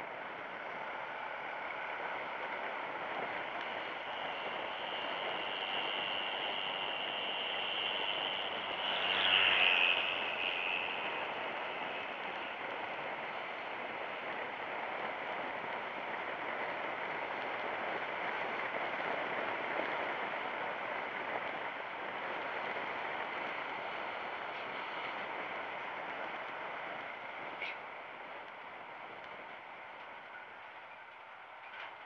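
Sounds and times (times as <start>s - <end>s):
wind rushing over microphone: 0.0s - 30.8s
road noise: 0.0s - 32.0s.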